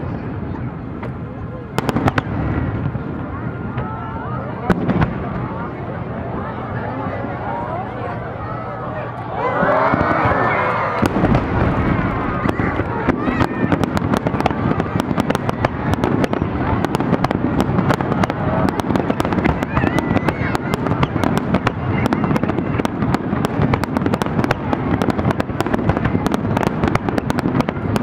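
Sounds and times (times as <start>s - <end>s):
fireworks bursting: 0.0s - 6.5s, 9.4s - 28.0s.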